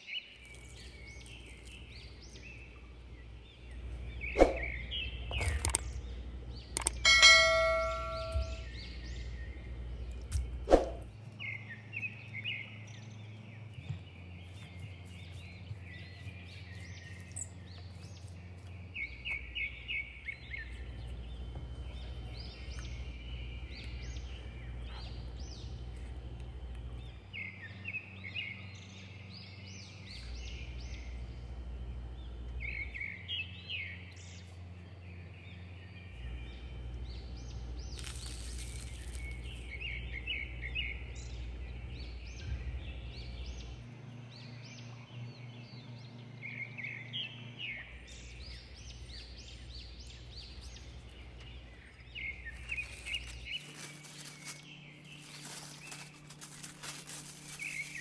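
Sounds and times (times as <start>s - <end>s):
low steady hum: 0.0s - 58.0s
small birds chirping: 0.0s - 58.0s.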